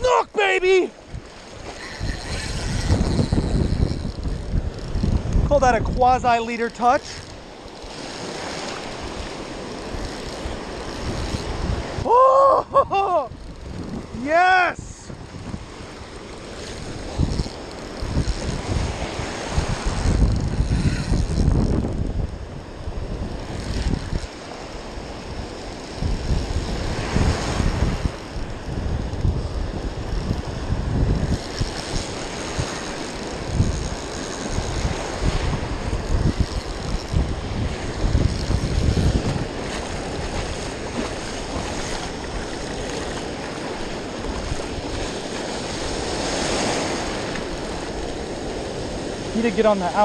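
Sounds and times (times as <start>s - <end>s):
surf washing onto beach: 0.0s - 50.0s
wind buffeting microphone: 0.0s - 50.0s.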